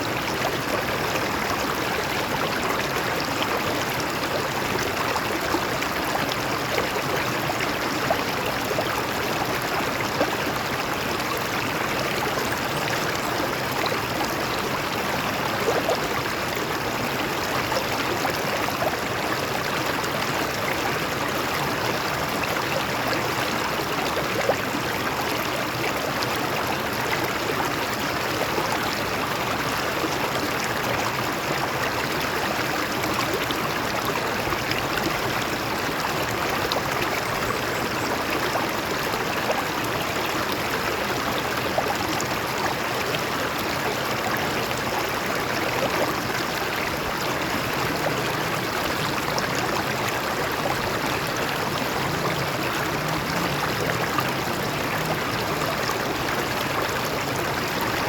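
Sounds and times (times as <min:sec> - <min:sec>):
stream water flowing over rocks: 0:00.0 - 0:58.0.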